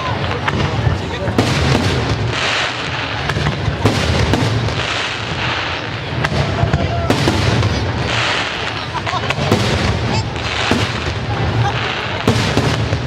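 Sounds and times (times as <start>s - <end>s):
fireworks shells bursting: 0.3s - 13.0s.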